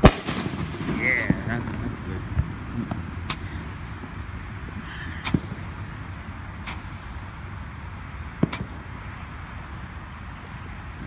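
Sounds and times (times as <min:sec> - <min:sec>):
fireworks popping: 0:00.0 - 0:09.0
low rumble: 0:00.0 - 0:11.0.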